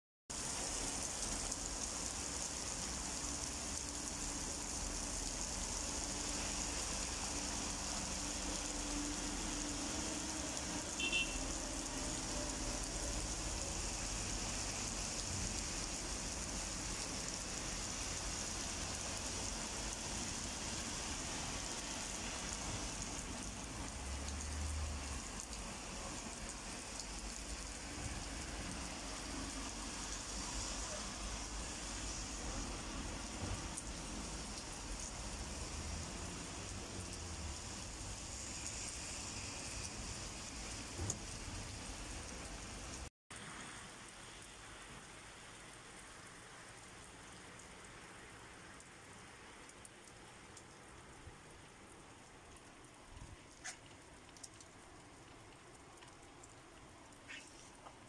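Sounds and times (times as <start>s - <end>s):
cars driving on wet street: 0.3s - 58.0s
heavy rain on pavement: 0.3s - 58.0s.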